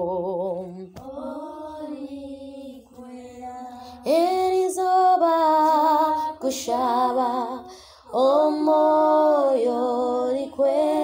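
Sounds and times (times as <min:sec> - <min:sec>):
woman singing a hymn: 0:00.0 - 0:11.0.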